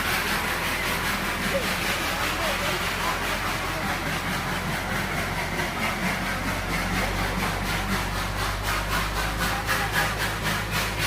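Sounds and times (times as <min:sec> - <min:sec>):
locomotive rhythmic rasping beat: 0:00.0 - 0:11.0.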